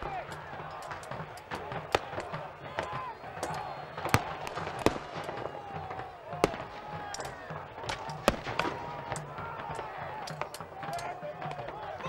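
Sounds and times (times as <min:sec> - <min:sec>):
muskets firing: 0:00.0 - 0:12.0.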